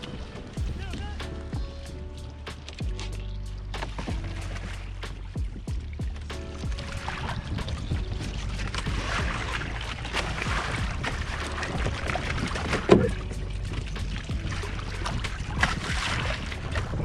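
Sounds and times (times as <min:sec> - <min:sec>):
water splashing against hull: 0:00.0 - 0:17.0
wind rumble on microphone: 0:00.0 - 0:17.0.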